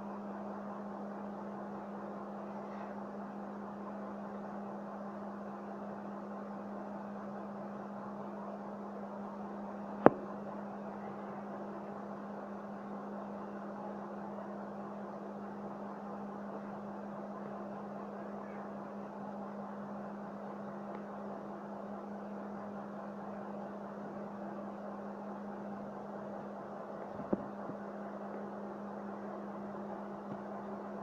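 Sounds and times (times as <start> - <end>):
motor hum with rushing noise: 0.0 - 31.0.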